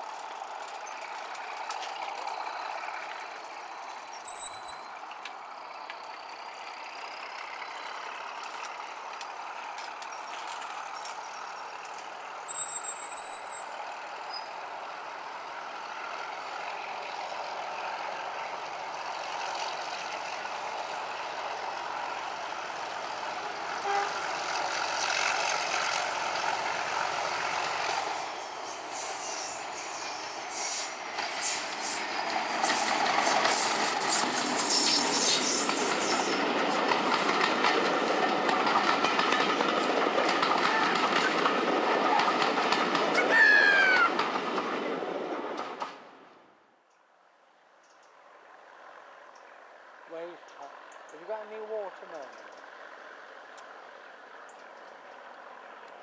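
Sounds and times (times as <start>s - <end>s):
diesel locomotive engine running: 0.0s - 46.8s, 47.6s - 56.0s.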